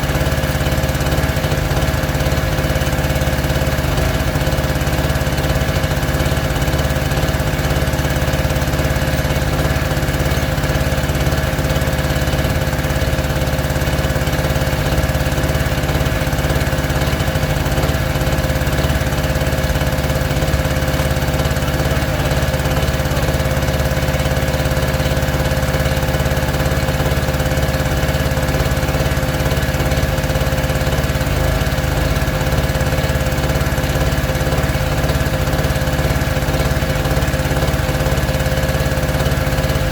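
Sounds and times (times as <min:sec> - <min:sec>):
small engine droning: 0:00.0 - 0:39.9.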